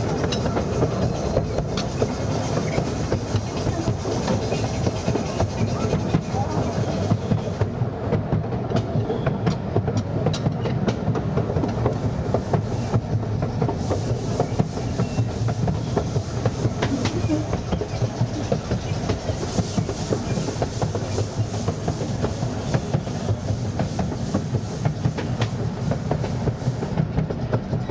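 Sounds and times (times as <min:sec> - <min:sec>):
wheels clicking over rail joints: 0:00.0 - 0:26.4
train carriage rumbling: 0:00.0 - 0:27.9.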